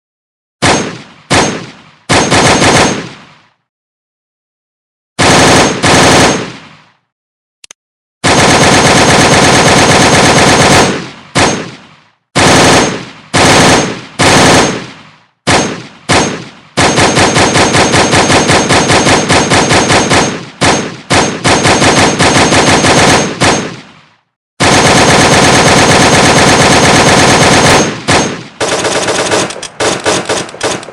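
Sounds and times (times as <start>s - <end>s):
assault rifle automatic fire: 0.6s - 3.2s, 5.2s - 6.7s, 8.2s - 11.8s, 12.4s - 24.0s, 24.6s - 30.9s.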